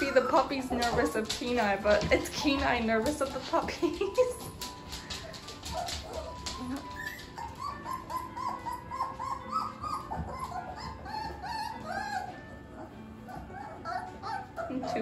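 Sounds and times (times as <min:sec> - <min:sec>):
puppies whimpering: 0:00.0 - 0:15.0.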